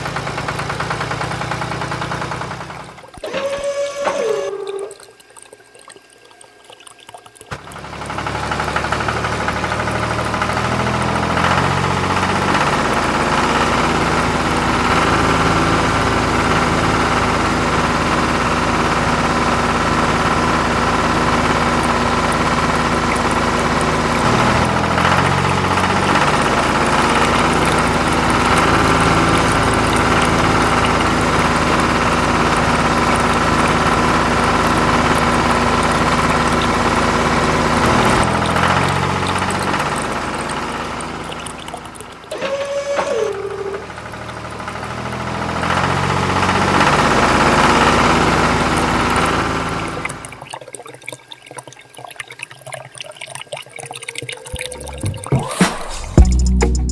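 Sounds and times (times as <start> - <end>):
looped engine sound: 0.0 - 4.8, 7.5 - 50.4, 54.6 - 56.9.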